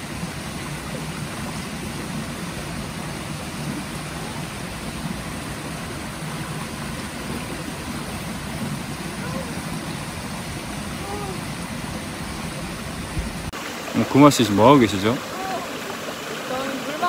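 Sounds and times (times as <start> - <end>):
stream running over stones: 0.0 - 17.0.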